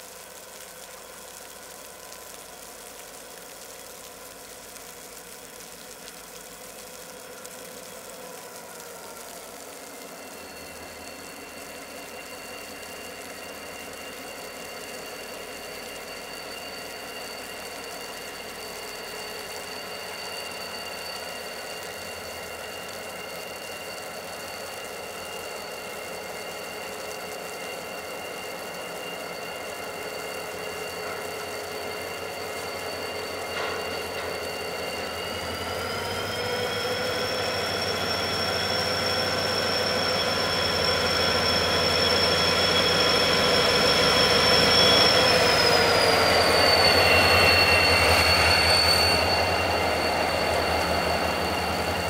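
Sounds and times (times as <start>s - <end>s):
steady high whine: 0.0s - 52.0s
diesel locomotive engine running: 10.1s - 52.0s.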